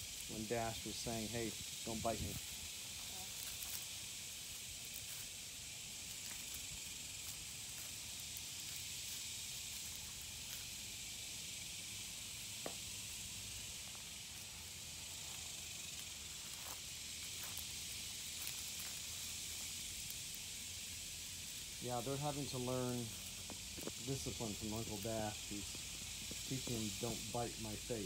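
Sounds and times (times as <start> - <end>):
insect chorus hiss: 0.0 - 28.0.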